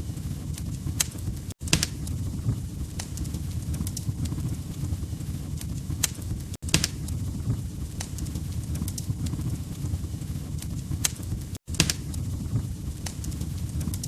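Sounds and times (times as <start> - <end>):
wood fire crackling: 0.0 - 14.0
logs popping: 0.5 - 14.0.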